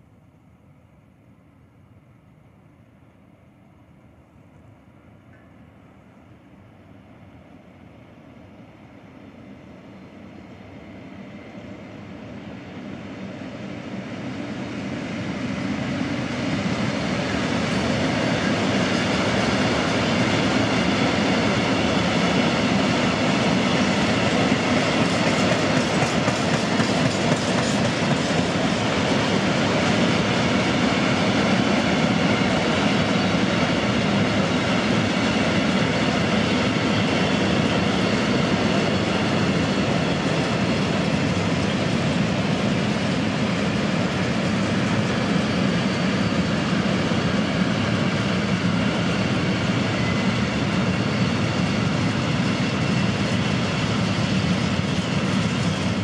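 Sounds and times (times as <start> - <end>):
freight train rumbling past: 2.0 - 56.0.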